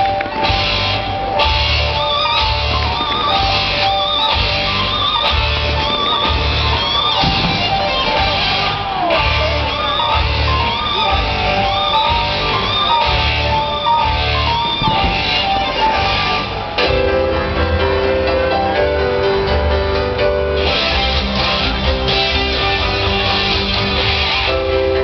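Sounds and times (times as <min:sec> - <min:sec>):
music with low beat and melody: 0:00.0 - 0:25.0.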